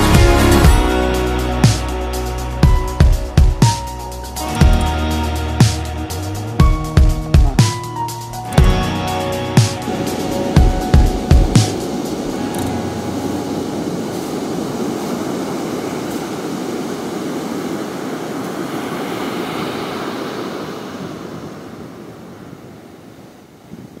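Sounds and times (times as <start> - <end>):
ocean surf on sandy beach: 0.0 - 24.0.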